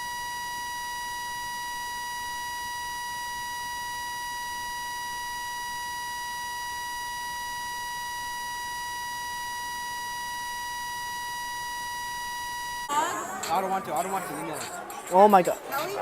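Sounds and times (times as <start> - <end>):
high-pitched electronic beep tone: 0.0 - 12.9.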